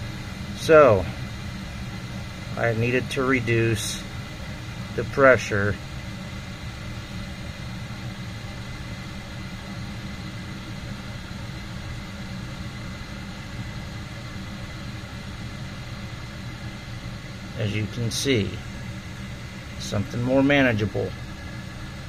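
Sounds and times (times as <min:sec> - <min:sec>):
gas furnace burners rushing: 0:00.0 - 0:22.0.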